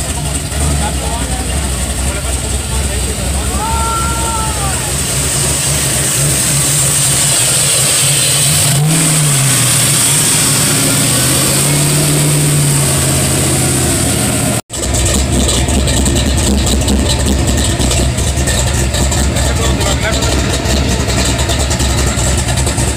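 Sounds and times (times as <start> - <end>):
truck engine idling and revving: 0.0 - 22.9.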